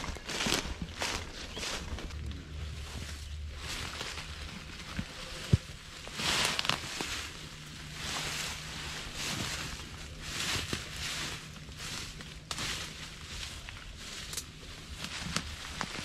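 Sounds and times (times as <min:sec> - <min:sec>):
footsteps rustling through leaves: 0:00.0 - 0:16.0.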